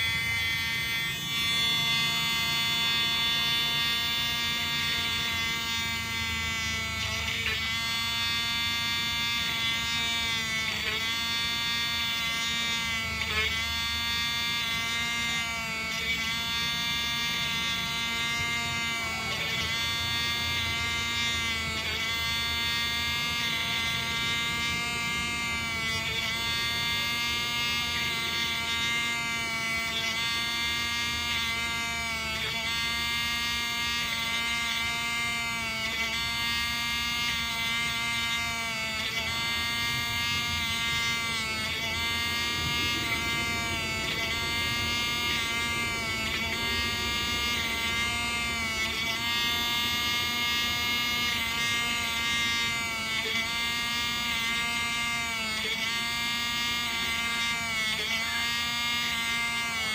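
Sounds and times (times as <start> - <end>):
rotary tool drilling plastic: 0.0 - 59.9.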